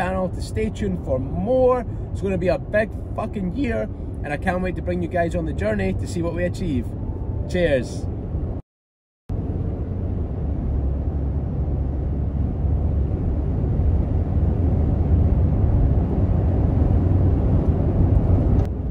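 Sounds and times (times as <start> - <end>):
car interior road rumble: 0.0 - 8.6, 9.3 - 18.9.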